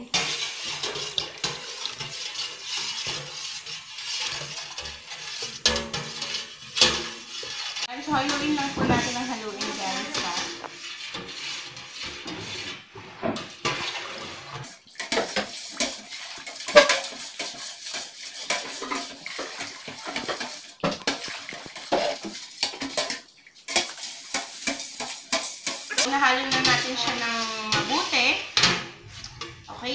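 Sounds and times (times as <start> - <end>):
metal spoon scraping a pot: 0.0 - 29.9.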